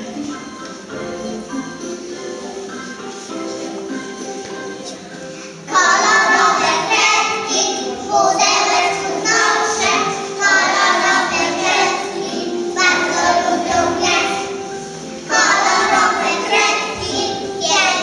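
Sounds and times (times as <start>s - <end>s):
children singing: 0.0s - 18.0s
instrumental backing track: 0.0s - 18.0s.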